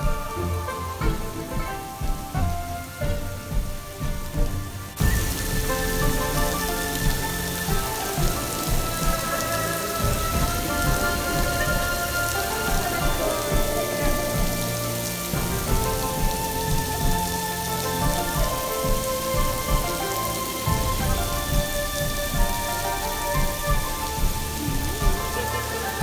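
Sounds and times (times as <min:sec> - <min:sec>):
heavy rain pouring onto floor: 0:00.0 - 0:26.0
soft held musical notes: 0:00.0 - 0:26.0.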